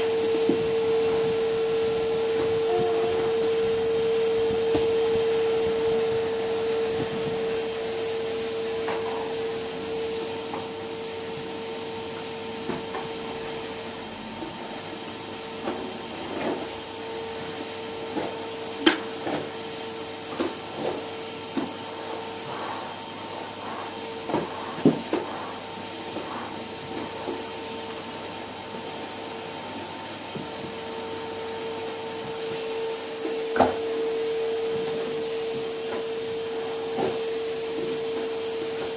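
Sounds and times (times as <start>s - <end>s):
vacuum cleaner humming: 0.0s - 38.9s.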